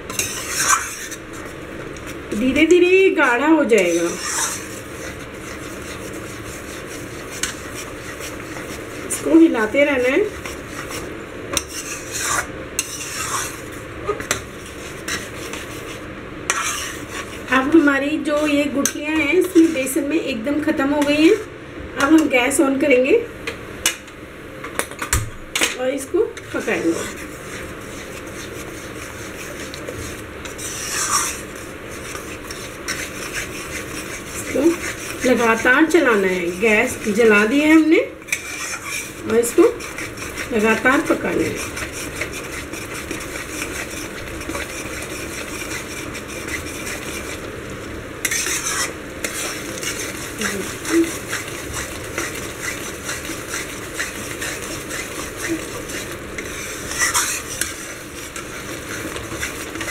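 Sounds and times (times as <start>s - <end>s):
metal spatula scraping a pan: 0.0s - 2.8s, 3.6s - 20.1s, 26.4s - 47.5s, 48.2s - 59.9s
soft sizzle: 0.0s - 21.5s, 25.9s - 59.9s.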